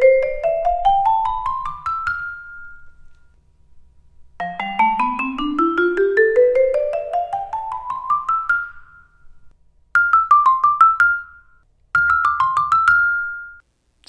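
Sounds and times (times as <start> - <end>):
vibraphone notes: 0.0 - 3.2, 4.4 - 13.6.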